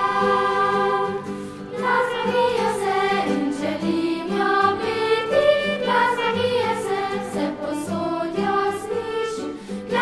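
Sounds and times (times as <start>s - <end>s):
children's choir singing: 0.0s - 10.0s.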